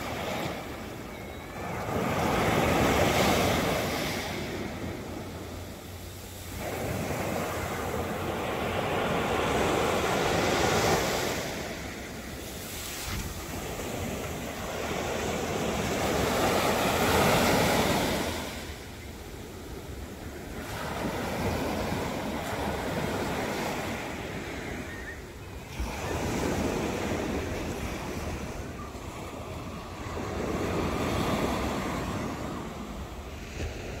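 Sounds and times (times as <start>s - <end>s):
waves breaking on a beach: 0.0s - 34.0s.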